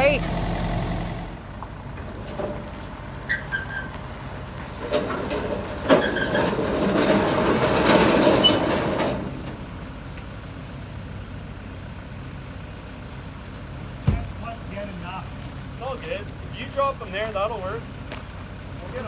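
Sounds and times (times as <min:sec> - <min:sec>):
diesel machinery idling: 0:00.0 - 0:19.0.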